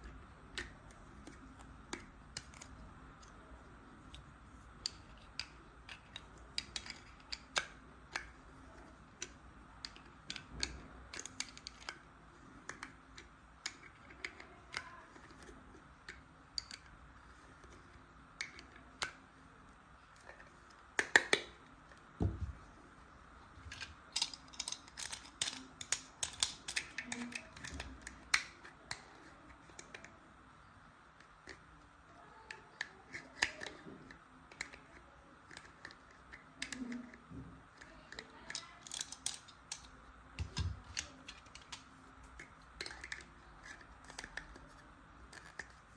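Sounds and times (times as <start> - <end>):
plastic toy pieces clicking: 0.0 - 19.4, 20.1 - 22.1, 23.6 - 30.2, 31.2 - 45.9.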